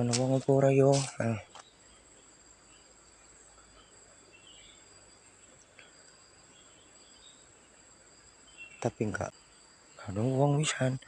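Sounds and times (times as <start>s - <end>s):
bird chirps: 0.0s - 11.0s
insects trilling: 0.0s - 11.0s.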